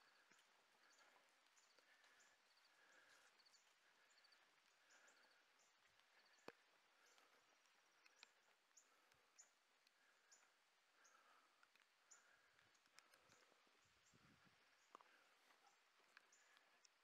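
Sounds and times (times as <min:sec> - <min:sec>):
high chirps and ticks: 0:00.0 - 0:17.0.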